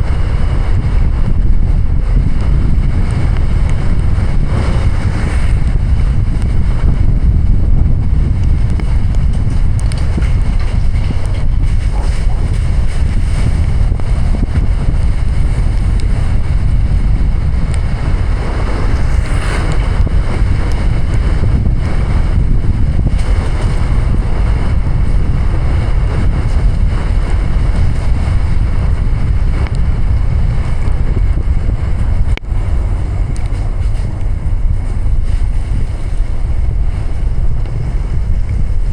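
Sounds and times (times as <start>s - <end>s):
car driving rumble: 0.0s - 38.9s
rain and tyre spray: 0.0s - 38.9s
wind noise on microphone: 0.0s - 38.9s.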